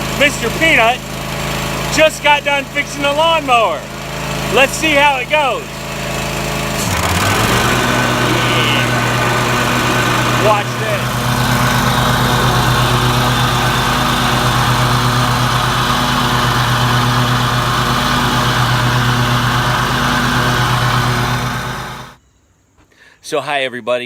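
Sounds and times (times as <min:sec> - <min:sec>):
lawn tractor engine humming: 0:00.0 - 0:22.2.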